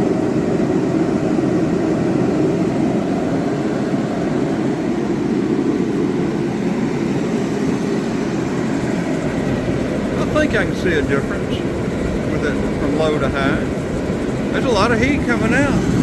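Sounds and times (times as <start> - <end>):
heater fan and burner rushing: 0.0 - 16.0.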